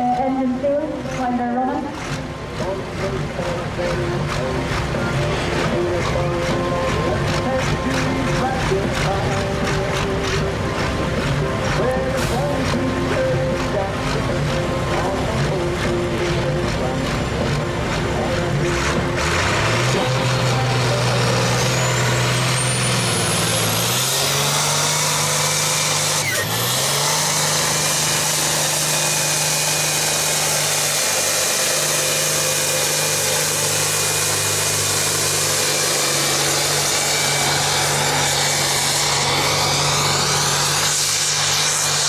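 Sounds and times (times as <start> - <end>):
diesel tractor engine under load: 0.0 - 42.0.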